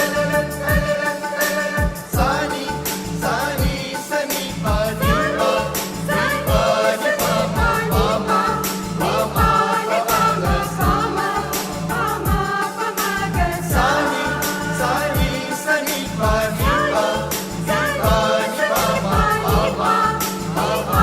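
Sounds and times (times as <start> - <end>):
instrumental backing with steady beat: 0.0 - 21.0
vocal group singing a carol: 0.0 - 21.0.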